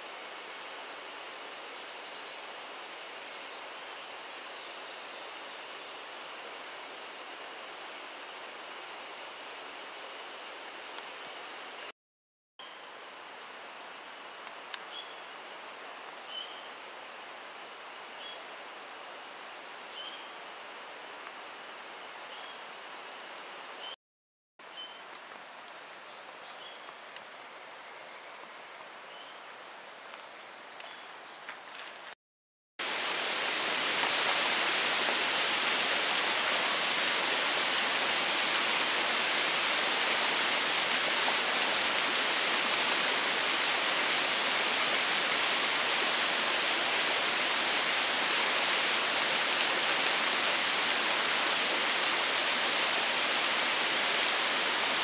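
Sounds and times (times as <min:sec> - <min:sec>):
insects droning: 0:00.0 - 0:11.9, 0:12.6 - 0:24.0, 0:24.6 - 0:32.2, 0:32.8 - 0:55.0.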